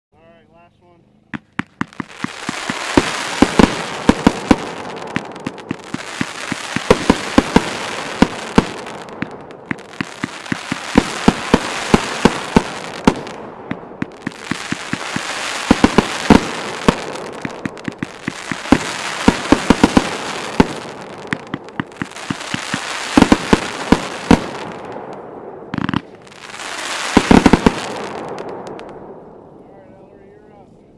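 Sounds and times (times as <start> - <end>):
firework pops and crackling: 1.3 - 29.0.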